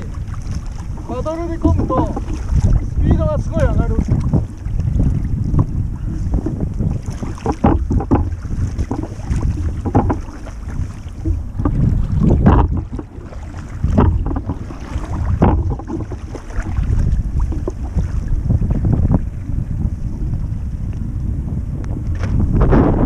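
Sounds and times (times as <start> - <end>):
paddle splashing: 0.0 - 20.6
wind rumbling on microphone: 0.0 - 23.0.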